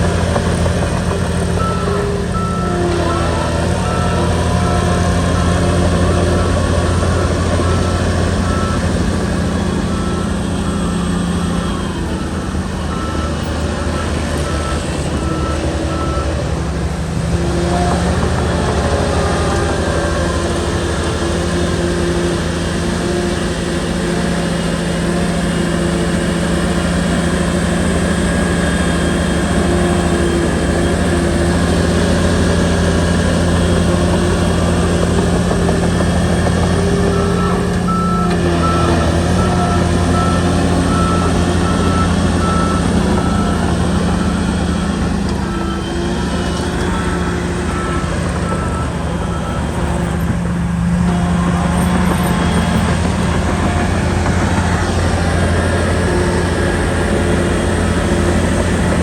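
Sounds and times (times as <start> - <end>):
bulldozer diesel engine running: 0.0 - 59.0
reversing alarm beeping: 0.1 - 59.0.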